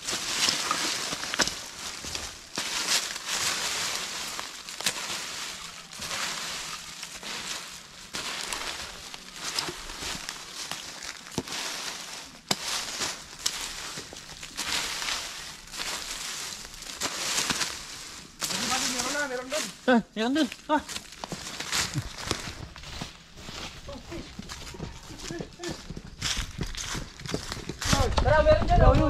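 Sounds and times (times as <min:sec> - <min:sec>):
dry leaves rustling and crackling: 0:00.0 - 0:29.0.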